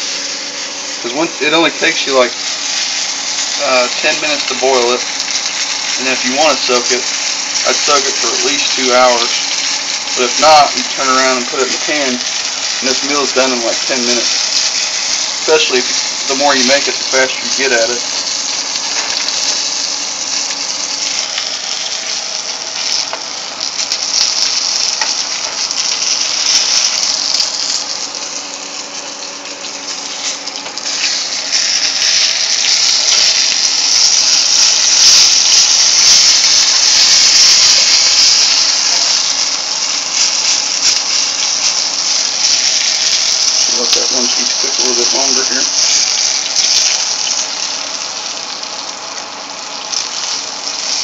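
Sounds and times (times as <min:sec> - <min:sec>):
meat sizzling in oil: 0:00.0 - 0:51.0.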